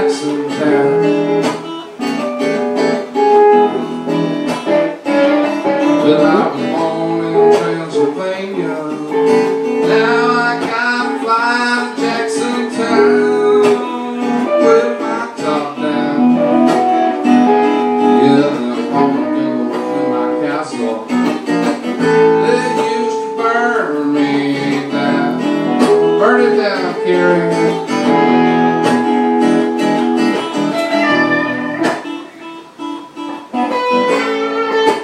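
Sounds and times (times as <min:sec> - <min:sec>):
guitar music with bent notes: 0:00.0 - 0:35.0.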